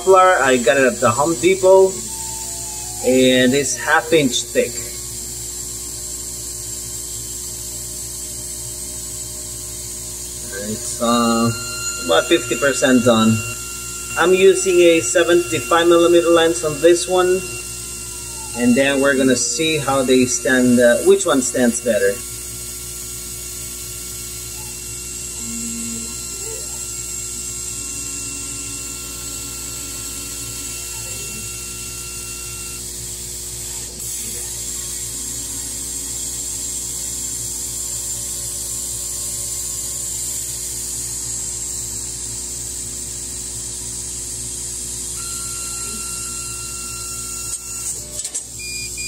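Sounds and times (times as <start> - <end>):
short motor tones: 0.0 - 42.6, 45.1 - 49.0
laser cutter hum and hiss: 0.0 - 49.0.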